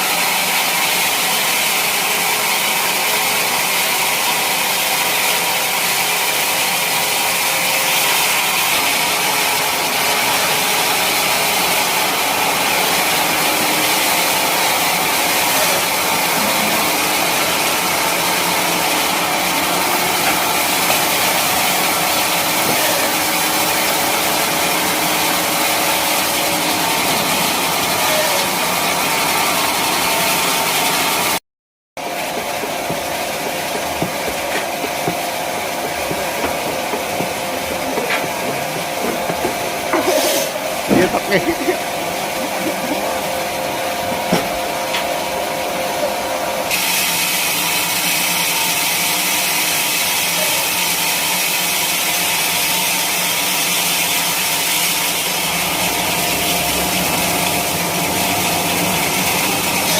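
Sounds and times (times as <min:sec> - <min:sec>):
sawmill machinery running: 0:00.0 - 0:31.4, 0:32.0 - 0:59.9.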